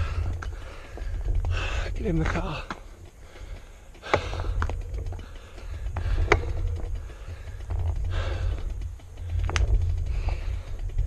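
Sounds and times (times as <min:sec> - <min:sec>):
person panting heavily: 0:00.0 - 0:11.0
sharp clicks: 0:00.0 - 0:11.0
steady low rumble: 0:00.0 - 0:11.0.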